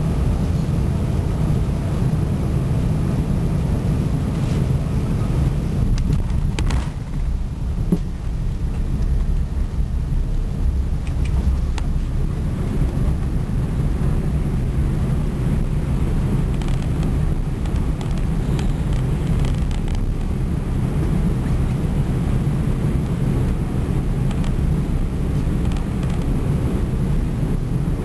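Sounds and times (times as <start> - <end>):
aircraft cabin rumble: 0.0 - 28.0.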